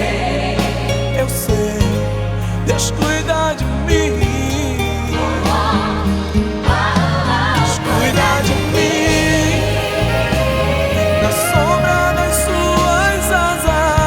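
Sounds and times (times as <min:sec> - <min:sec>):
bass and keyboard backing: 0:00.0 - 0:14.0
person singing with vibrato: 0:00.0 - 0:14.0.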